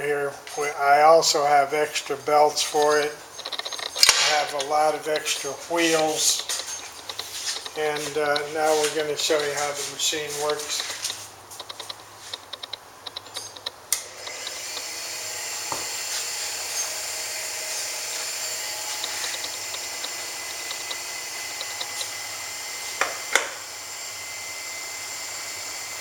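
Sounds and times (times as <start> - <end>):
grinder motor whirring: 2.4 - 26.0.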